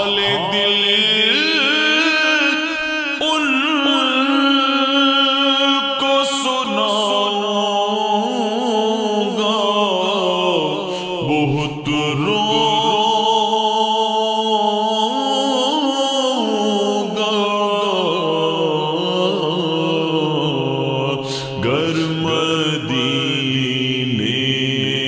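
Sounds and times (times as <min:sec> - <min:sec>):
layered vocal drone: 0:00.0 - 0:25.0.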